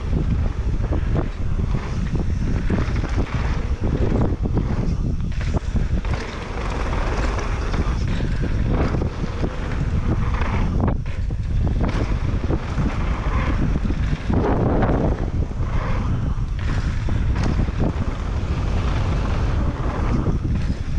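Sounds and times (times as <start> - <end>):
bike rattling and ticking: 0.0 - 20.9
tyres rumbling: 0.0 - 20.9
wind on microphone: 0.0 - 20.9.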